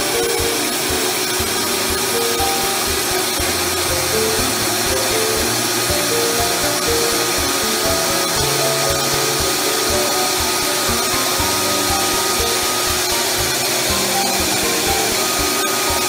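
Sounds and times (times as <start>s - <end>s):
background music with beat: 0.0s - 16.0s
router cutting wood: 0.0s - 16.0s.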